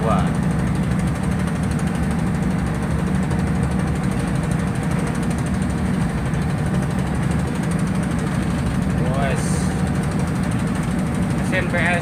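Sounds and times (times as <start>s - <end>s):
boat diesel engine throbbing: 0.0s - 12.0s.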